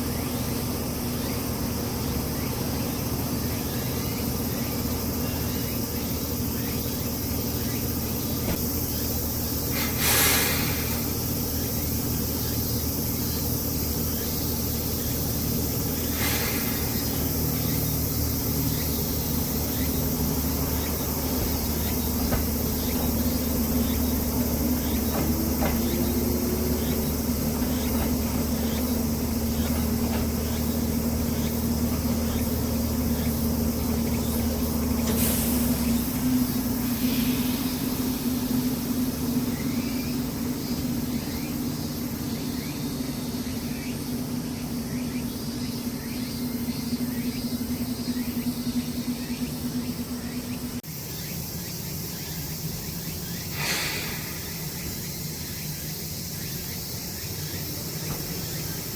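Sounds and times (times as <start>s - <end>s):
electric train humming: 0.0s - 58.9s
insects calling: 0.0s - 58.9s.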